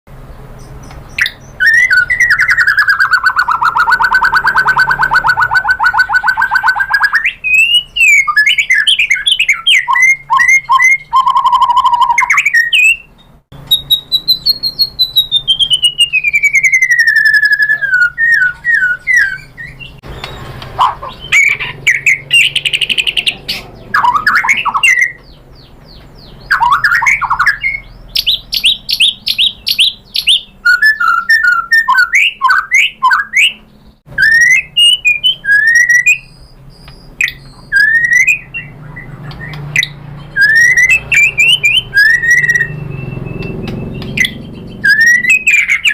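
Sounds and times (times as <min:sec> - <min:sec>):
bird singing varied song: 0:00.1 - 0:45.9.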